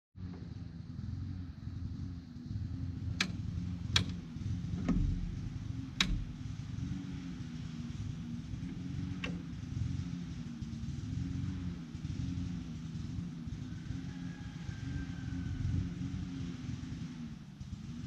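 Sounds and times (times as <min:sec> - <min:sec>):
low pulsing mechanical rumble: 0:00.2 - 0:18.0.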